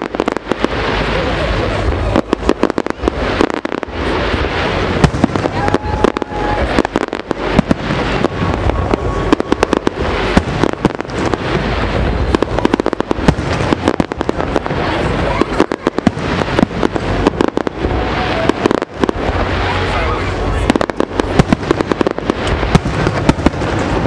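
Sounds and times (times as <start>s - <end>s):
fireworks bangs: 0.0s - 24.0s
low rumble: 0.0s - 24.0s.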